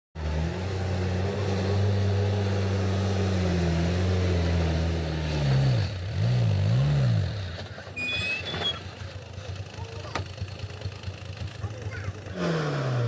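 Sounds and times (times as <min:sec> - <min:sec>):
diesel truck engine labouring: 0:00.2 - 0:13.0.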